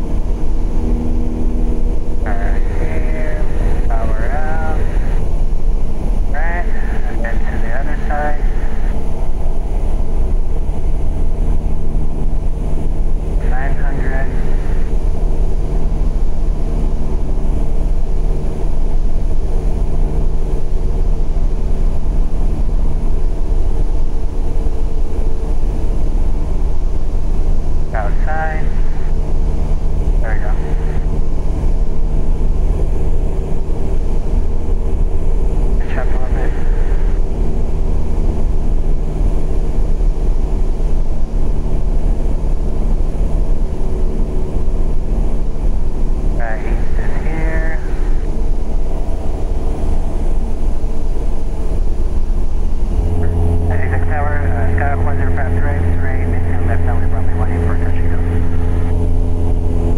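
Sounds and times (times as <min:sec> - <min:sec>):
airflow noise: 0:00.0 - 0:59.9
propeller airplane engine droning: 0:00.0 - 0:59.9.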